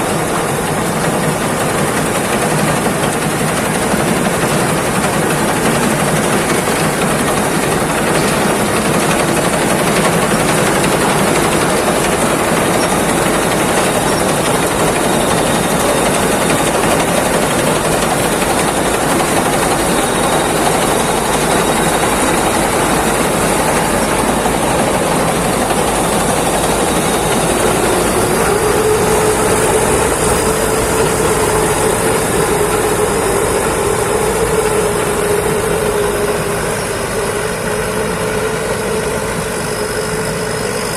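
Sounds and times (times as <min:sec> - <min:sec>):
combine harvester engine drone: 0:00.0 - 0:40.9
steady machine whine: 0:00.0 - 0:40.9.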